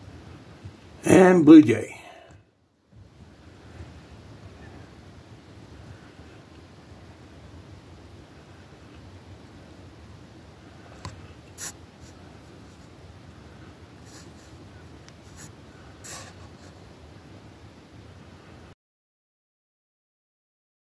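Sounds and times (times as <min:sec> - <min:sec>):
faint indoor hiss: 0:00.0 - 0:18.8.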